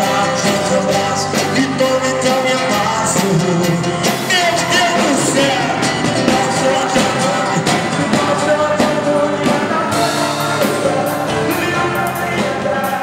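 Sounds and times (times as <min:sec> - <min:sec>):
band playing a song: 0:00.0 - 0:13.0
steady drum beat: 0:00.0 - 0:13.0.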